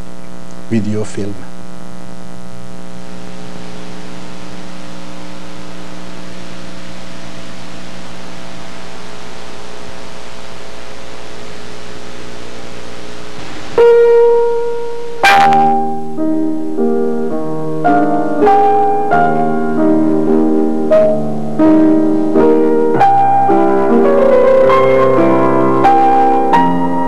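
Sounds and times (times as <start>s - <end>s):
electrical hum: 0.0s - 27.0s
piano music: 5.1s - 27.0s.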